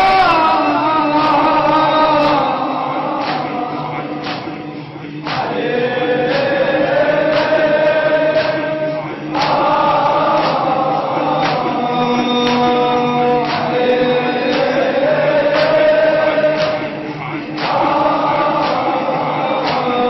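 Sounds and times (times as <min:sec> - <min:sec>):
men singing a lament: 0:00.0 - 0:20.0.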